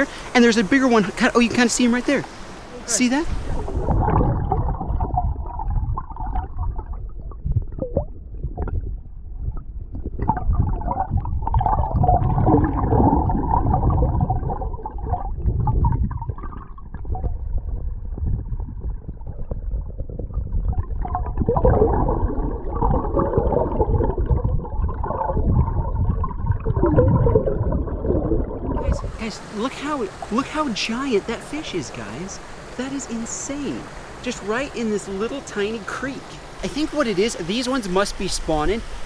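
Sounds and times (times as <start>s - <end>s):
underwater water gurgling: 0.0s - 39.0s.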